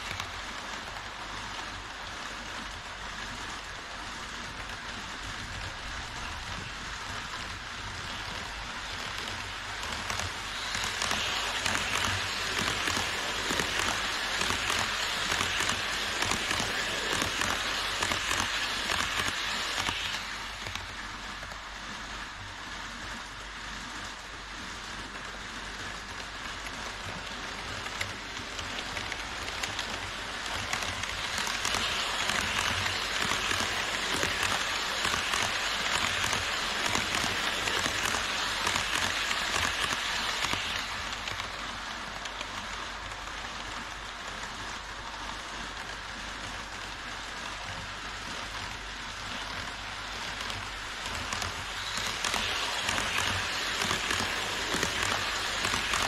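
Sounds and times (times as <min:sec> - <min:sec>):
model train wheels rattling: 0:00.0 - 0:22.4, 0:25.8 - 0:56.0.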